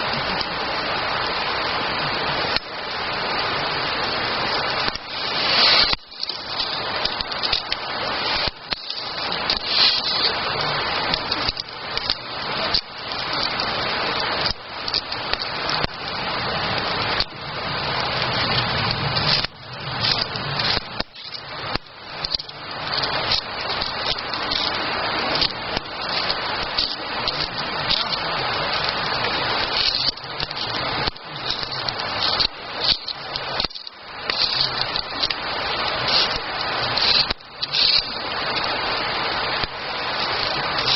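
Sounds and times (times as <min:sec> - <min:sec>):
campfire flames hissing: 0:00.0 - 0:40.9
fire crackling: 0:00.0 - 0:40.9.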